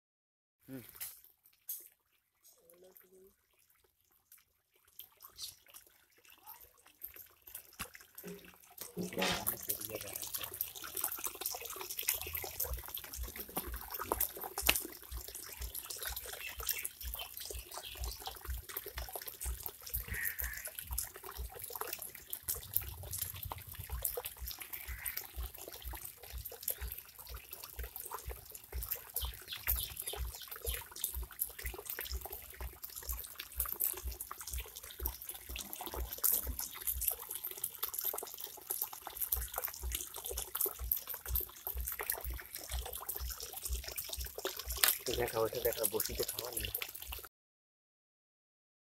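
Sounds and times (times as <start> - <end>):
small clicks and splashes: 0.7 - 47.3
water trickling and lapping: 0.7 - 47.3.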